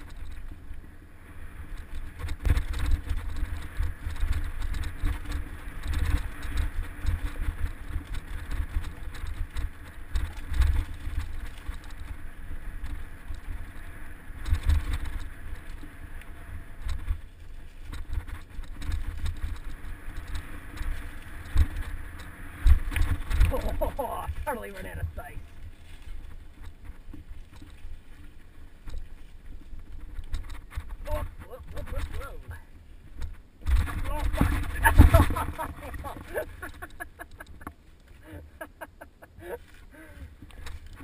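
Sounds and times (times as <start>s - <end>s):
bike rattling over bumps: 0.0s - 41.0s
tyres crunching over dirt: 0.0s - 41.0s
wind rumbling on microphone: 0.0s - 41.0s.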